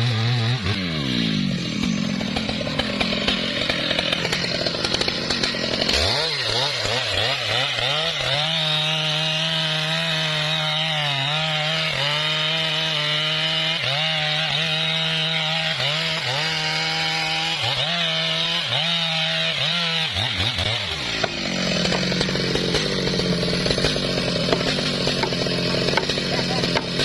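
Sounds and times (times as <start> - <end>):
chainsaw cutting wood: 0.0 - 27.0
second chainsaw under load: 0.0 - 27.0.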